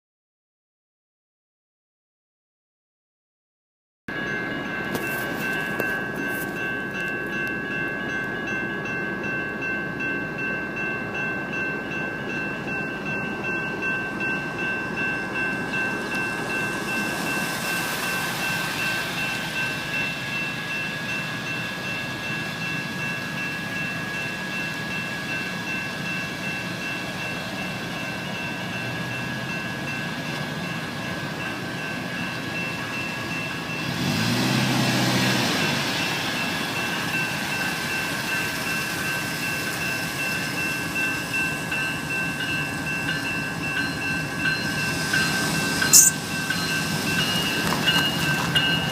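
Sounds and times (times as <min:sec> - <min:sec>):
freight train passing: 0:04.1 - 0:48.9
railroad crossing bells ringing: 0:04.1 - 0:48.9.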